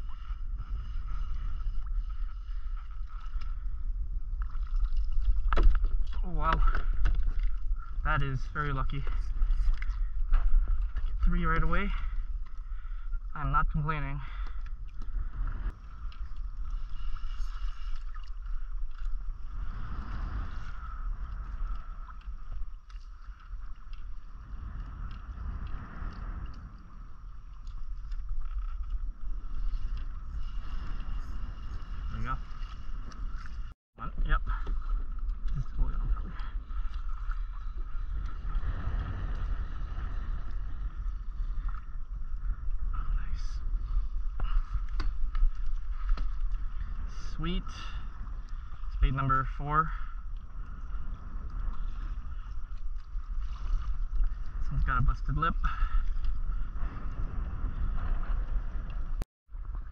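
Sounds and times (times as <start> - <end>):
water lapping against hull: 0.0 - 59.9
wind rumbling on microphone: 0.0 - 59.9.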